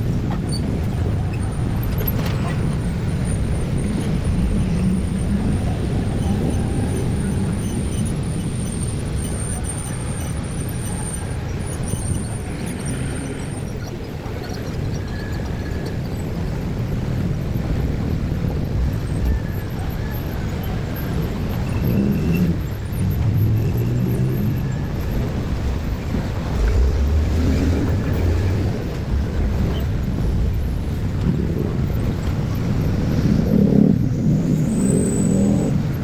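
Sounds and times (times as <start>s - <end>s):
traffic engines rumbling: 0.0s - 36.0s.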